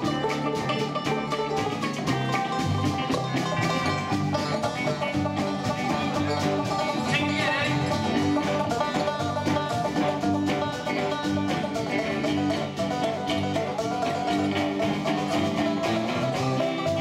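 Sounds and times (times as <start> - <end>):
banjo picking: 0.0 - 17.0
live band playing: 0.0 - 17.0.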